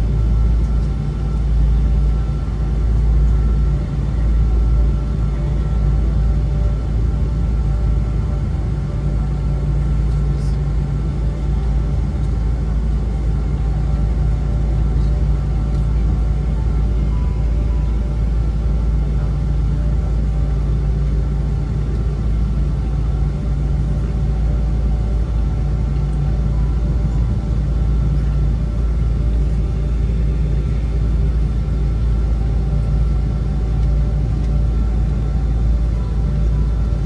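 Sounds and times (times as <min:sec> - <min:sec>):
aircraft cabin engine rumble: 0:00.0 - 0:37.0
steady hum tones: 0:00.0 - 0:37.0.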